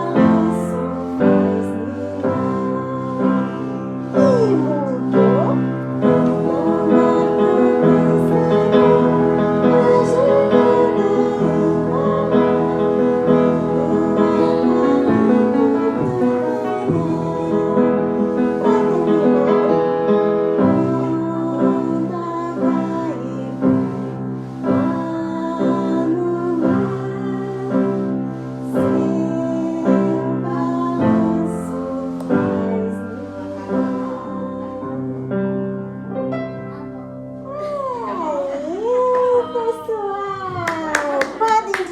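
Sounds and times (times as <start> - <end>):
voices singing: 0.0 - 35.5
piano accompaniment: 0.0 - 41.9.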